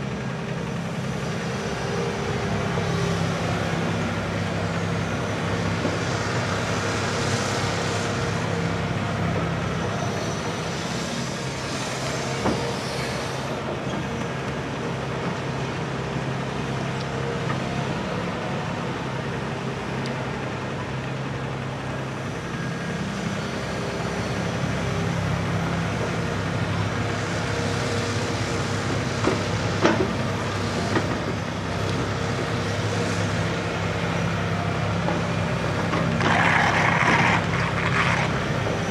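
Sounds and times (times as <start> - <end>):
diesel engines running: 0.0 - 38.9.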